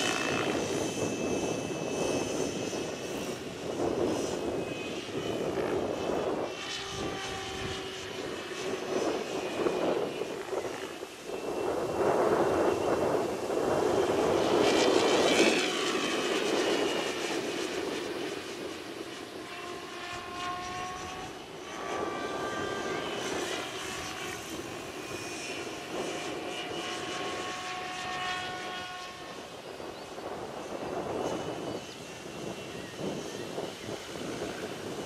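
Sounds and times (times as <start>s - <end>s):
rc helicopter whining: 0.0s - 35.0s
rushing wind: 0.0s - 35.0s.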